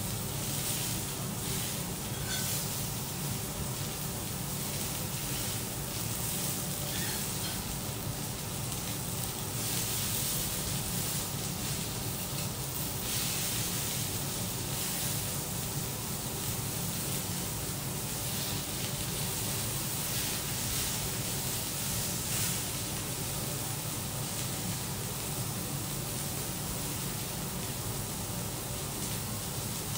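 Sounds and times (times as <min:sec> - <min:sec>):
steak sizzling on griddle: 0:00.0 - 0:29.9.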